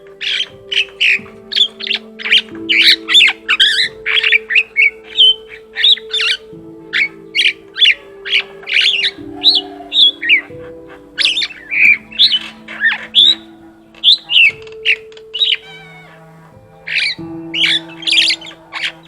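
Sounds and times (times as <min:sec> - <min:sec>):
starling singing: 0:00.0 - 0:19.0.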